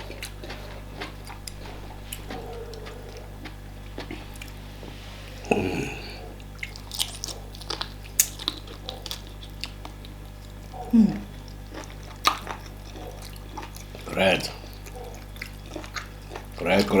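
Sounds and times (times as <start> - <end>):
wet chewing and mouth clicks: 0.0 - 5.0, 5.6 - 17.0.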